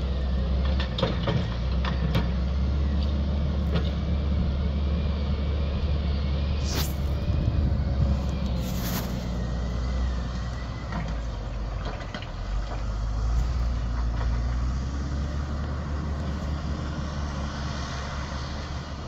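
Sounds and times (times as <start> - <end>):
distant diesel engine rumble: 0.0 - 19.0.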